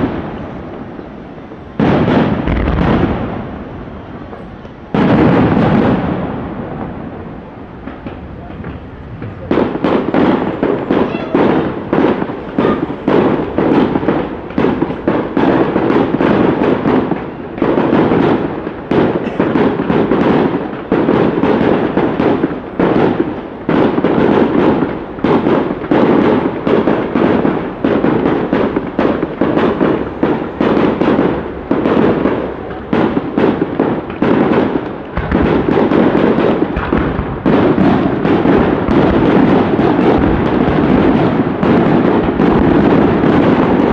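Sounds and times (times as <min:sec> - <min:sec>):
fireworks bangs: 0:00.0 - 0:43.9.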